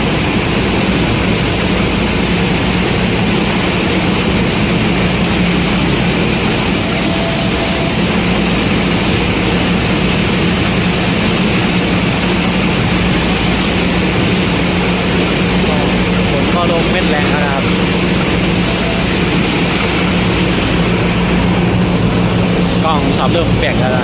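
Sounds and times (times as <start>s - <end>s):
combine harvester engine hum: 0.0s - 24.0s
threshing machinery rushing: 1.1s - 24.0s.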